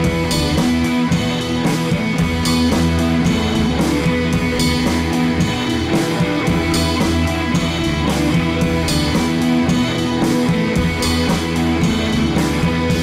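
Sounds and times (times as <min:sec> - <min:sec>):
guitar-led instrumental music: 0:00.0 - 0:13.0.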